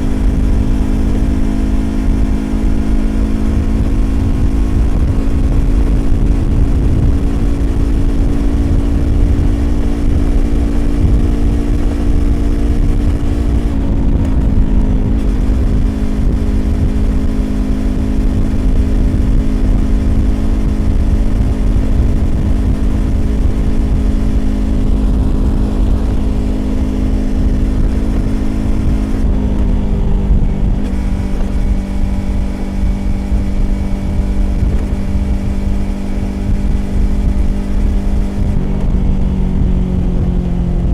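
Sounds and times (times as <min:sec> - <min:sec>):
motorcycle engine at steady throttle: 0:00.0 - 0:40.9
wind rumble on microphone: 0:00.0 - 0:40.9.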